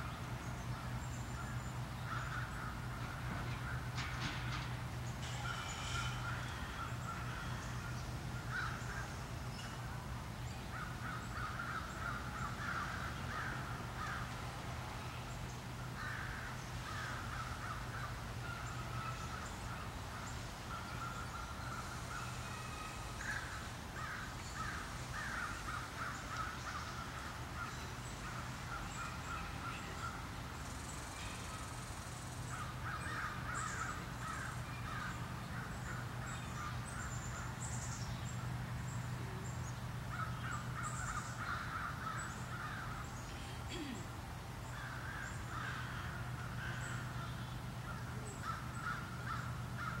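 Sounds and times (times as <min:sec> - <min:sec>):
birds calling: 0:00.0 - 0:50.0.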